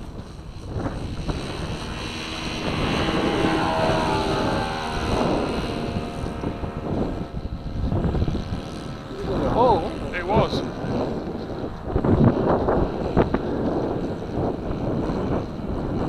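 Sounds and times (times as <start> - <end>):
model plane engine whining: 0.0 - 16.0
wind buffeting microphone: 0.0 - 16.0.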